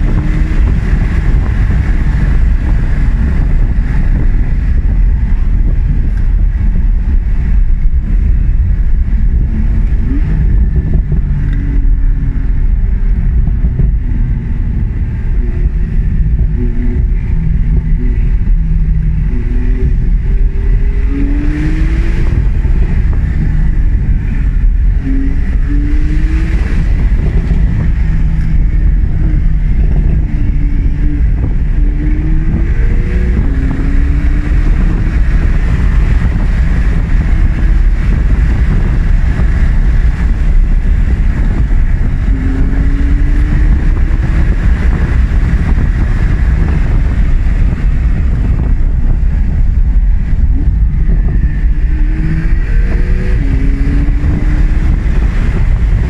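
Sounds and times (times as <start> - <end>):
car engine revving: 0.0 - 56.0
low road rumble: 0.0 - 56.0.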